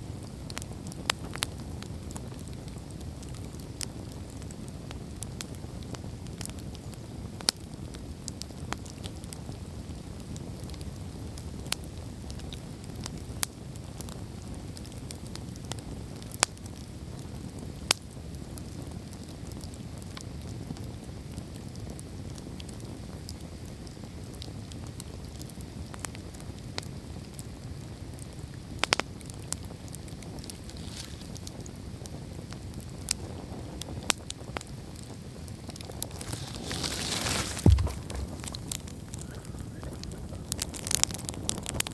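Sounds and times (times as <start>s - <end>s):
low rumble of fire: 0.0s - 41.9s
campfire crackling and popping: 0.3s - 41.9s.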